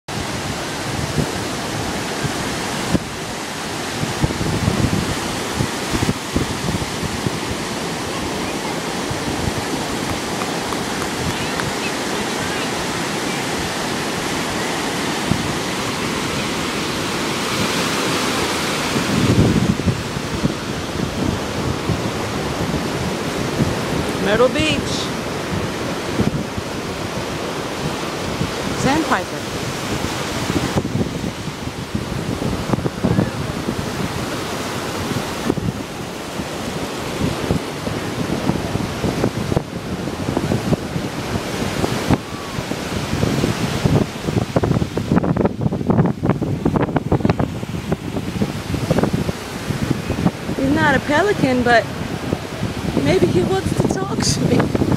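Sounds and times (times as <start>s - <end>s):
ocean surf breaking: 0.1s - 54.9s
wind buffeting microphone: 0.1s - 54.9s.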